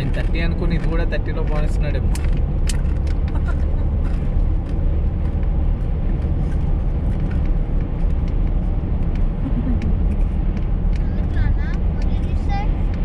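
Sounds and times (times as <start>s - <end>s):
car road rumble inside cabin: 0.0s - 13.0s.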